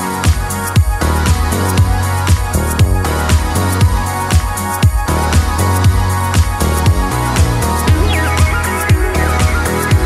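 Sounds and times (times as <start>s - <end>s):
sustained bass line: 0.0s - 10.0s
kick drum beat: 0.3s - 10.0s.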